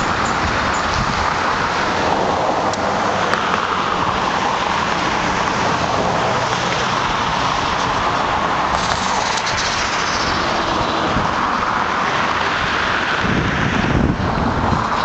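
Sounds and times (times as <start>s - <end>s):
heavy truck engine running: 0.0s - 15.0s.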